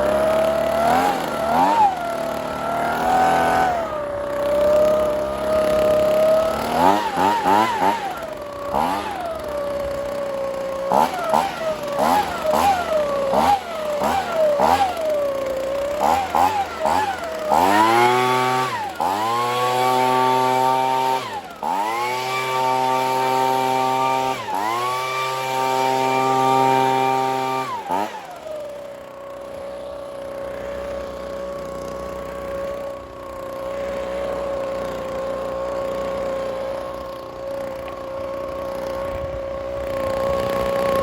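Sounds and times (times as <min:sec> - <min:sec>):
leaf blower engine revving: 0:00.0 - 0:41.0.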